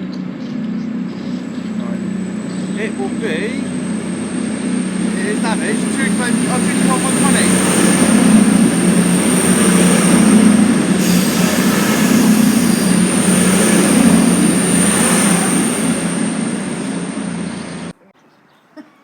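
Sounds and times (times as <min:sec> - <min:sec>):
high-pitched train whine: 0:00.0 - 0:18.0
train engine and wheels rumbling: 0:00.0 - 0:18.0.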